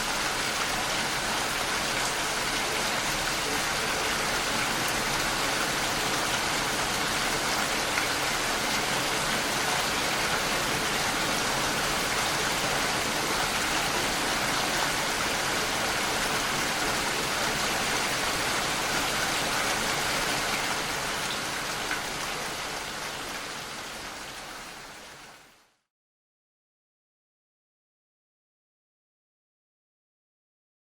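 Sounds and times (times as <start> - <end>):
rain pattering: 0.0 - 25.6.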